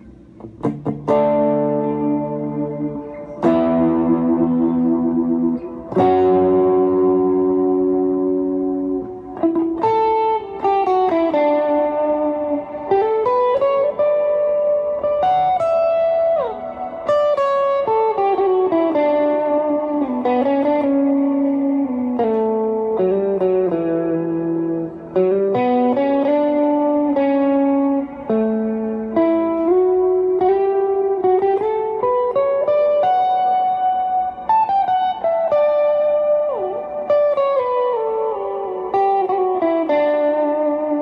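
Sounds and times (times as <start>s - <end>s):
overdriven electric guitar melody: 0.0s - 41.0s.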